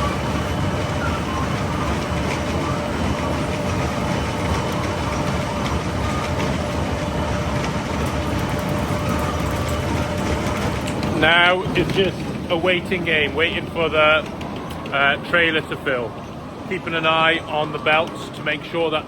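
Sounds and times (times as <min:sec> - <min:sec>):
conveyor low mechanical rumble: 0:00.0 - 0:19.0.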